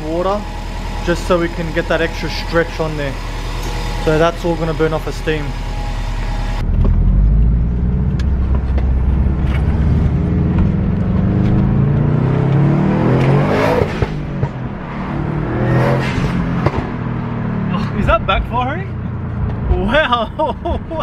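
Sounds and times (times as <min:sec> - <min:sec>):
car engine revving: 0:00.0 - 0:20.3.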